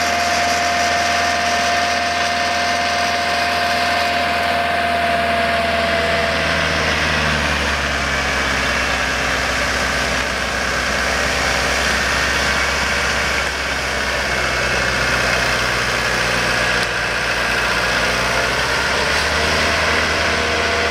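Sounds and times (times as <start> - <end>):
snowblower throwing snow: 0.0 - 20.9
tractor engine running: 0.0 - 20.9.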